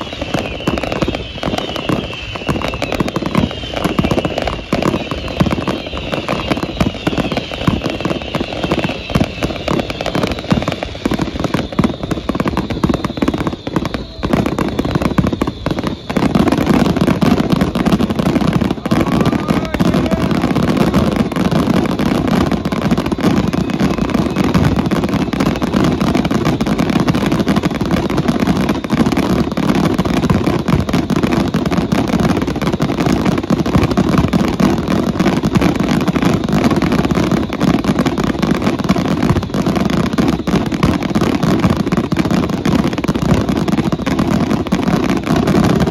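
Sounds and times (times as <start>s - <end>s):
faint falling whistles: 0.0s - 45.9s
fireworks bursts and crackles: 0.0s - 45.9s.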